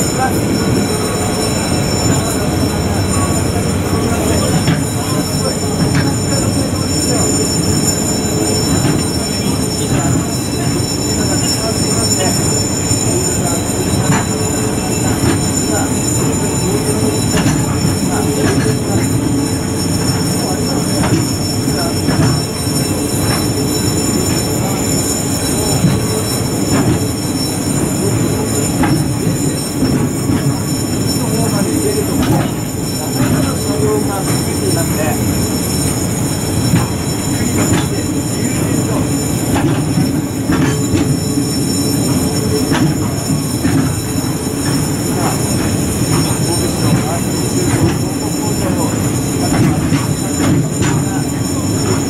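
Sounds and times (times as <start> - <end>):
train wheels rumbling on rail: 0.0 - 52.0
wheel squeaks: 0.0 - 52.0.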